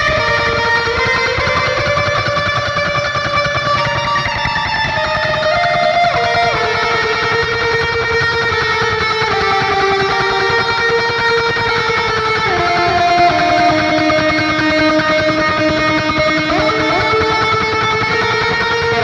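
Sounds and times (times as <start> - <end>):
distorted electric guitar notes: 0.0 - 19.0
low chugging guitar pulse: 0.0 - 19.0.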